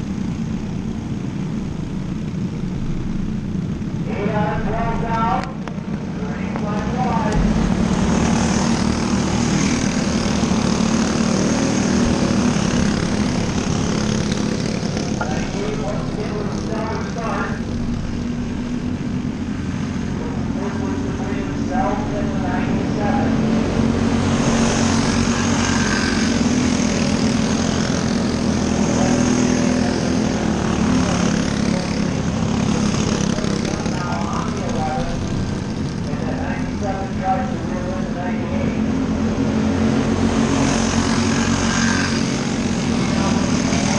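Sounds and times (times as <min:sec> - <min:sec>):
racing car engines droning: 0:00.0 - 0:43.9.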